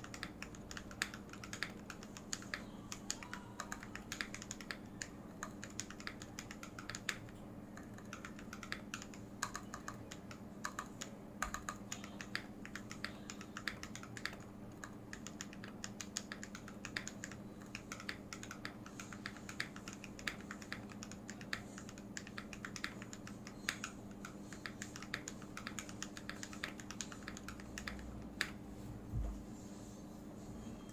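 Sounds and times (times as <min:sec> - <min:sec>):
mechanical keyboard typing: 0:00.0 - 0:28.6.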